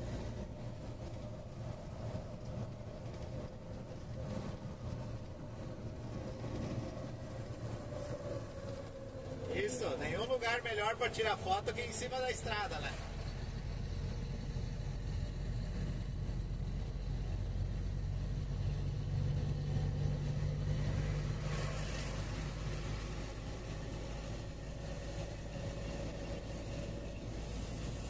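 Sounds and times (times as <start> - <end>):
vehicle engine and tyre drone: 0.0 - 28.0.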